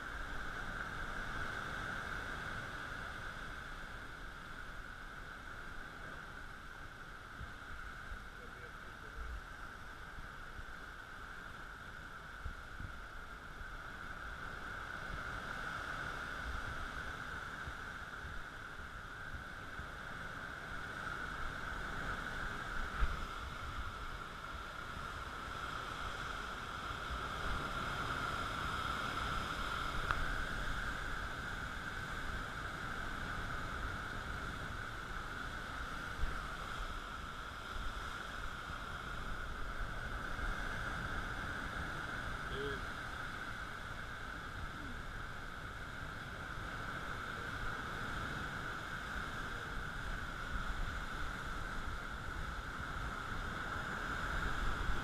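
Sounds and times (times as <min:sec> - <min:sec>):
surf churning among rocks: 0:00.0 - 0:55.0.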